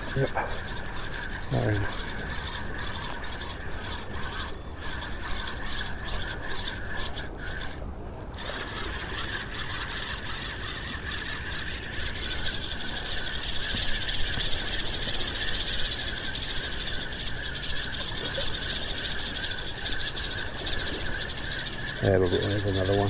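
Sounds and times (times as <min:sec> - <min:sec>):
fishing reel ticking whirr: 0:00.0 - 0:23.0.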